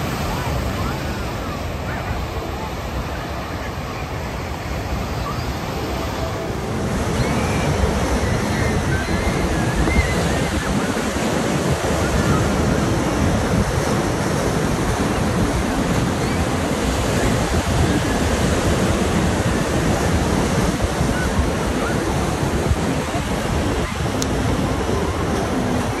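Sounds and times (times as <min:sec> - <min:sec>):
ocean surf breaking over rocks: 0:00.0 - 0:26.0.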